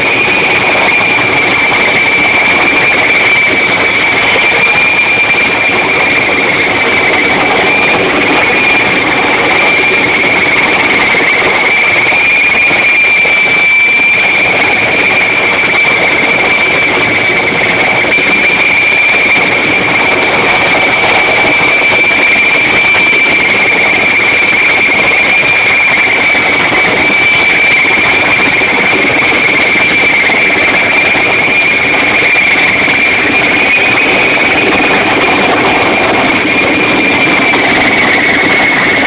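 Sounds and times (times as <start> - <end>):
helicopter rotor noise: 0.0 - 39.0
helicopter turbine whine: 0.0 - 39.0.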